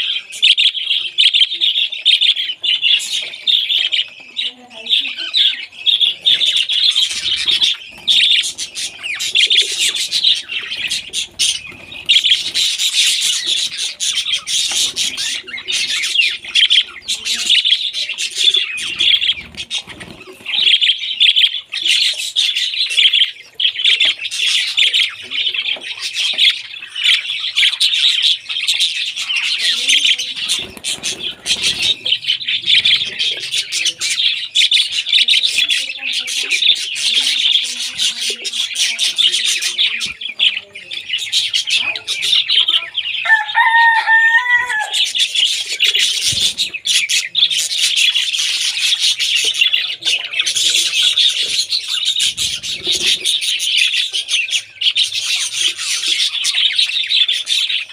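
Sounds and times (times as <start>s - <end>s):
budgerigars chattering: 0.0s - 57.9s.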